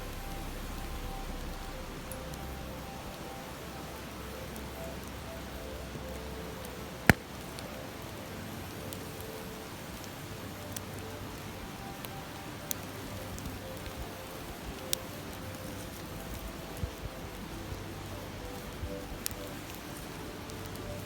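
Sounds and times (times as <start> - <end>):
campfire crackling and popping: 1.7 - 21.0.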